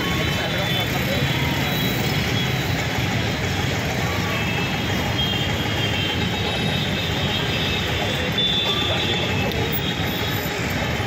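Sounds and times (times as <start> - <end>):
bus engines: 0.0 - 11.0
people talking in crowd: 0.0 - 11.0
traffic: 0.0 - 11.0.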